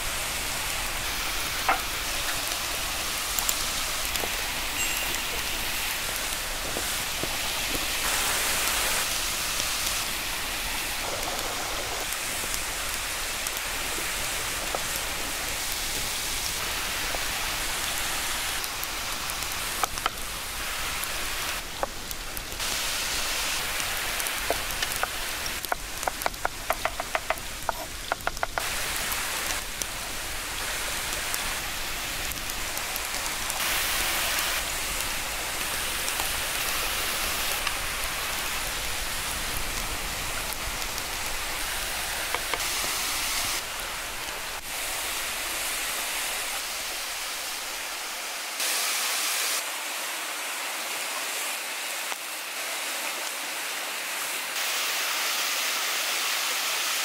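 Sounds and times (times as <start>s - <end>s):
waterfall rushing: 0.0s - 21.8s, 22.6s - 57.0s.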